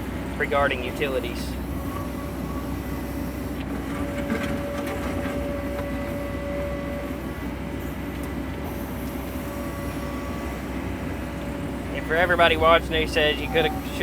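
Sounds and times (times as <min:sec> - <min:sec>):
excavator diesel engine running: 0:00.0 - 0:14.0
hydraulic whine: 0:00.0 - 0:14.0.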